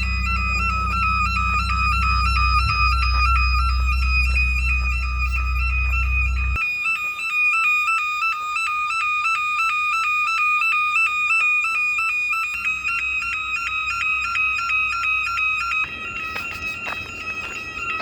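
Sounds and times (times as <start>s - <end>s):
two-pitch fire alarm siren: 0.0s - 18.0s.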